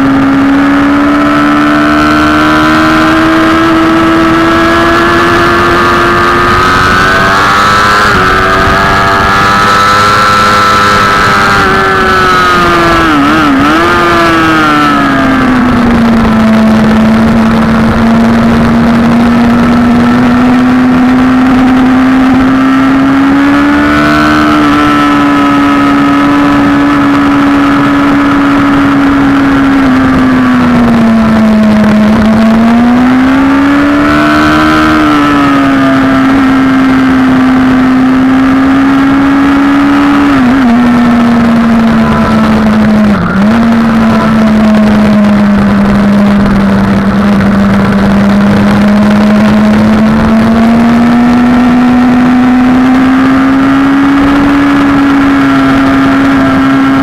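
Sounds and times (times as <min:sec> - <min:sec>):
motorcycle engine revving high: 0:00.0 - 0:57.0
wind rushing over microphone: 0:00.0 - 0:57.0.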